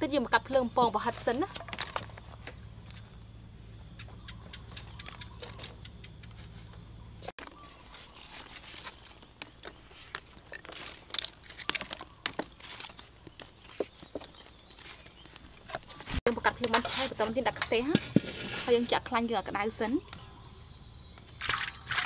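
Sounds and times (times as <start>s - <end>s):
wood fire crackling: 0.0s - 21.4s.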